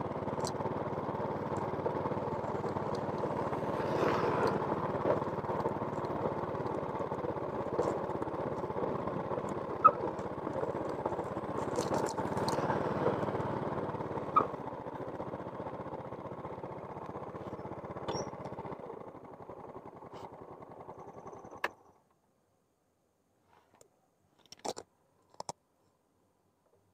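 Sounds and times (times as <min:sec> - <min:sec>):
small engine running: 0:00.0 - 0:22.1.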